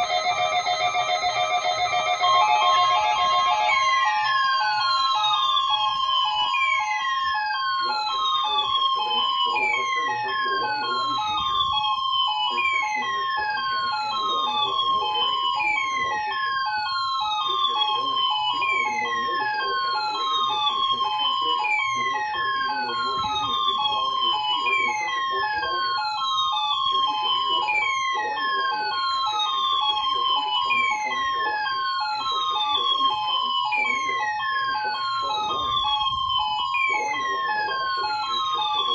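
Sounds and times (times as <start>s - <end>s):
falling siren-like sweep: 0.0s - 38.9s
rapidly pulsing beep tones: 0.0s - 38.9s.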